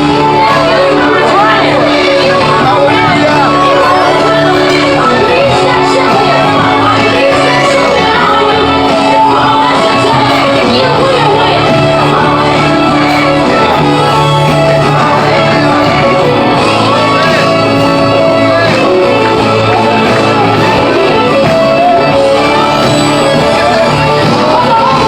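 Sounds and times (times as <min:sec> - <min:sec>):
people singing and shouting: 0:00.0 - 0:25.0.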